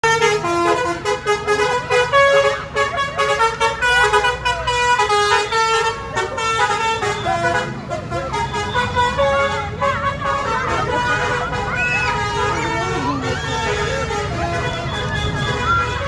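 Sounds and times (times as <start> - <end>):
multi-tone musical air horns: 0.0 - 16.0.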